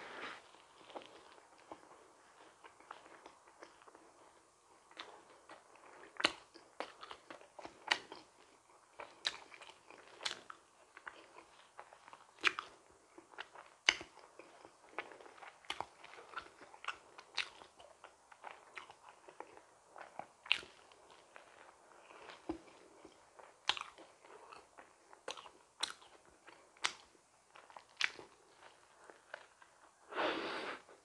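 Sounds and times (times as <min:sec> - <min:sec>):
person chewing: 0:00.1 - 0:30.7.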